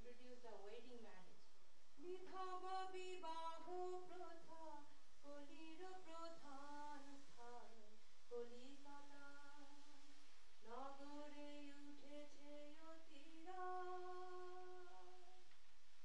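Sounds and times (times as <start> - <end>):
woman singing unaccompanied: 2.0 - 10.0, 10.6 - 15.5.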